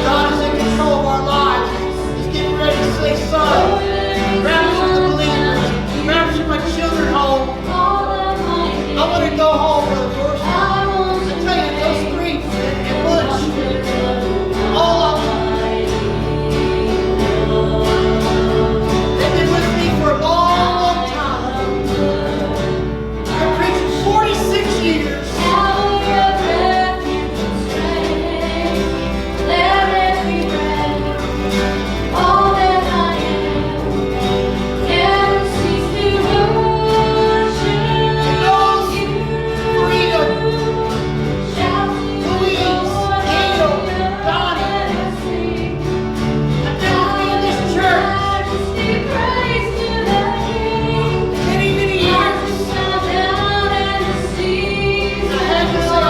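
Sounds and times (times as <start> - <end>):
group singing gospel song: 0.0 - 56.0
sustained instrumental accompaniment: 0.0 - 56.0.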